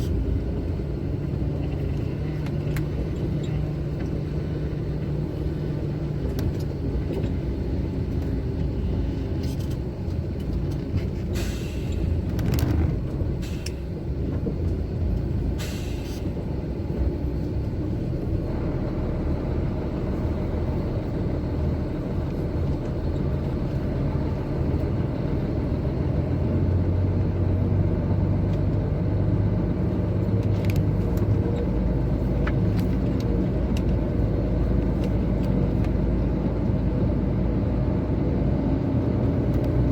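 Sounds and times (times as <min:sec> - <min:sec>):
heavy truck driving: 0:00.0 - 0:39.9.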